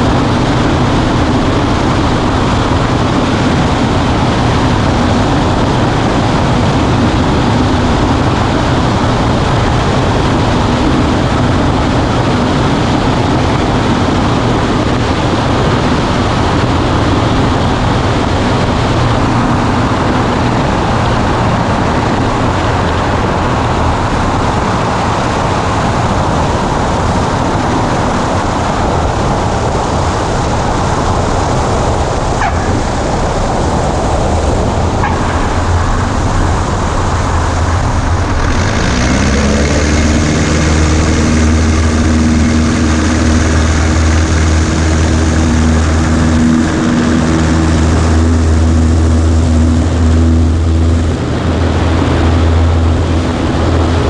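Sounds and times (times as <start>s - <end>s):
air rushing over cabin: 0.0s - 54.0s
light aircraft engine drone: 0.0s - 54.0s.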